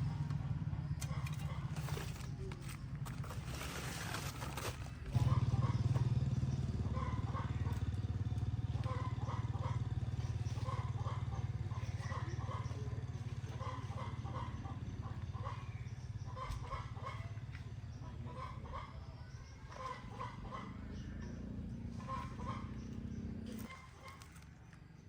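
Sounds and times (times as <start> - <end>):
small engine idling: 0.0 - 25.0.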